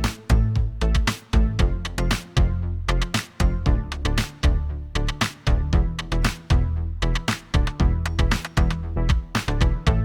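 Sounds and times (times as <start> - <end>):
bass line: 0.0 - 10.0.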